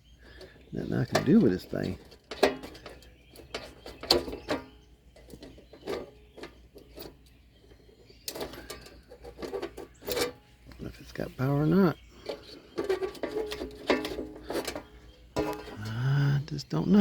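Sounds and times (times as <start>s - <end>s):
hands handling hardware clicks: 0.3s - 10.8s, 12.2s - 15.9s.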